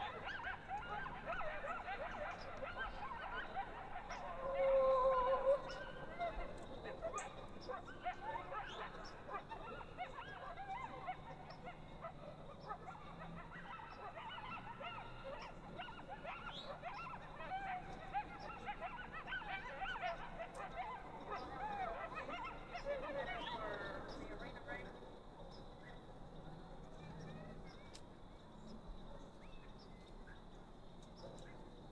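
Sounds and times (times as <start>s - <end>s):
coyotes yipping and howling: 0.0s - 31.9s.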